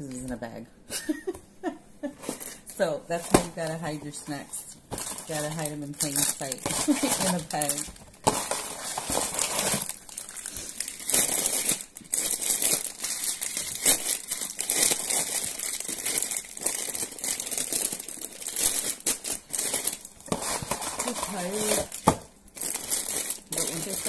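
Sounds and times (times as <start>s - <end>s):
plastic wrappers crinkling: 2.2s - 24.0s.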